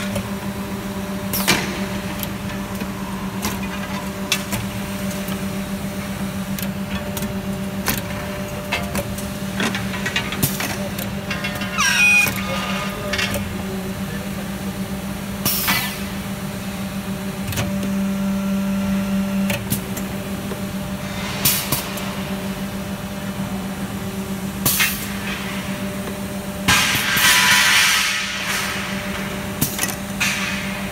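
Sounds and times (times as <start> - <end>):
hydraulic power unit hum: 0.0 - 30.9.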